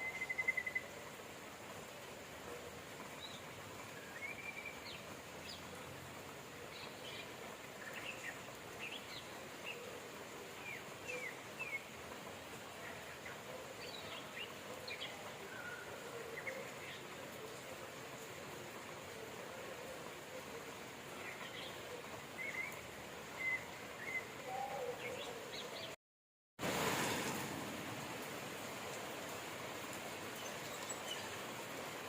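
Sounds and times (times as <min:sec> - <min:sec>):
steady rain hiss: 0:00.0 - 0:26.0, 0:26.6 - 0:32.0.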